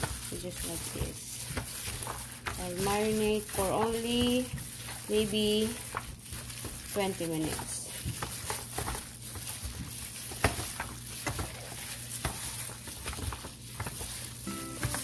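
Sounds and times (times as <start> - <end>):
wet squelching of raw meat: 0.0 - 14.5
foil pan crinkling: 0.0 - 15.0.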